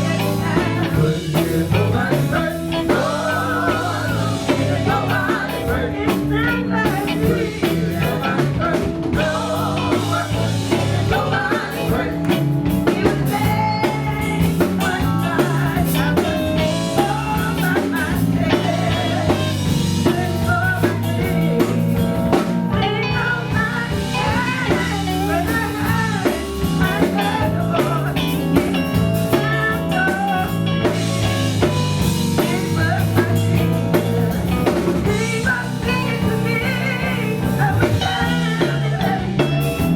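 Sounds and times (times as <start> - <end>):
live blues band with singing: 0.0 - 39.9.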